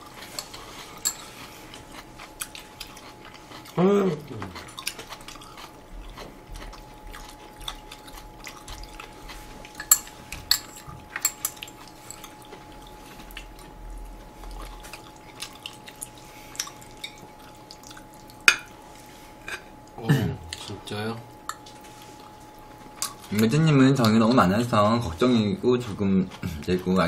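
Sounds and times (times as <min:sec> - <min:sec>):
wet chewing sounds: 0:00.0 - 0:24.3.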